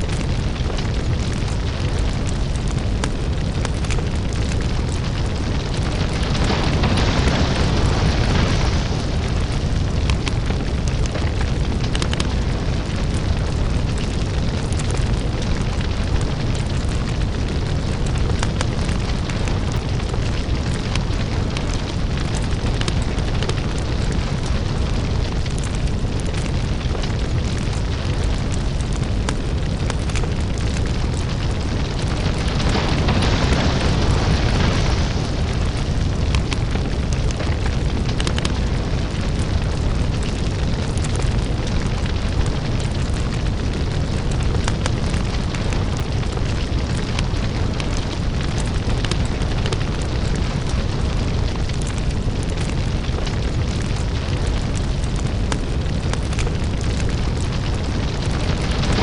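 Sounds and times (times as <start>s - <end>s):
deep rumble: 0.0s - 59.0s
lava crackling and popping: 0.0s - 59.0s.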